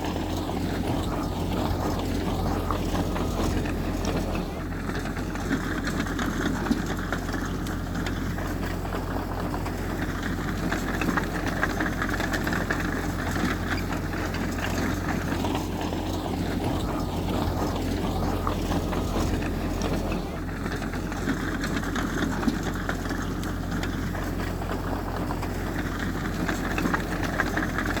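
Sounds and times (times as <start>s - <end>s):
heavy machinery diesel engine rumbling: 0.0s - 28.0s.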